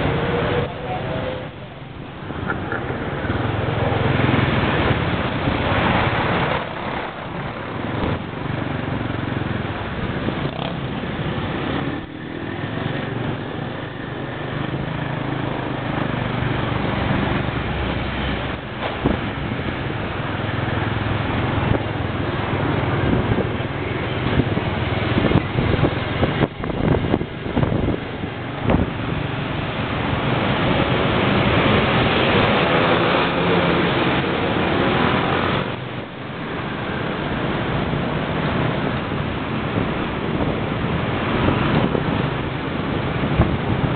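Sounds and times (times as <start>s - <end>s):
city traffic noise: 0.0s - 43.9s.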